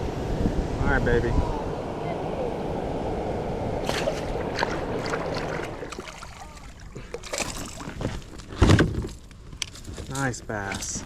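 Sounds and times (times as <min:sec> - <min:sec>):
water noise: 0:00.0 - 0:09.1
wind: 0:00.0 - 0:11.0.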